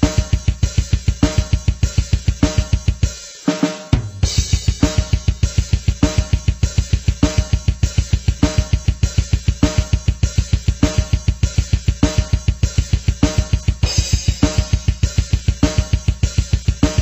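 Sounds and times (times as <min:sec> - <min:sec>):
music with fast drum beat: 0:00.0 - 0:17.0.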